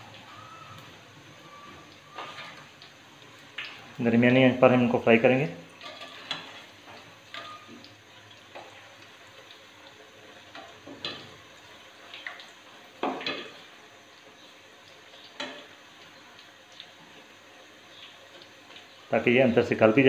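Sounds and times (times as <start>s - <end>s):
deep-frying sizzle in oil: 0.0s - 20.0s.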